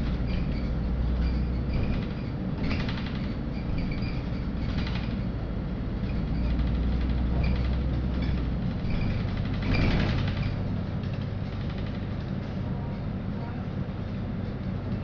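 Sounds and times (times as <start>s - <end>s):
bus engine droning: 0.0s - 15.0s
interior rattles: 0.0s - 15.0s
road noise: 0.0s - 15.0s.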